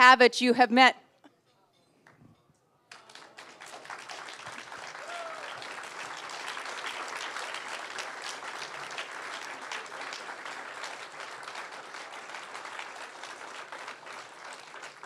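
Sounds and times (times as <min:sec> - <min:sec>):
audience applauding: 0:02.9 - 0:15.0.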